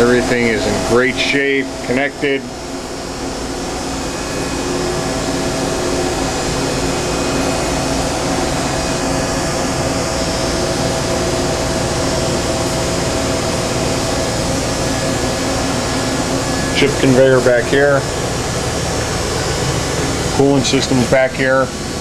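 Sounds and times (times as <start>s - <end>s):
machine whirring hum: 0.0s - 22.0s
steady tones: 0.0s - 22.0s.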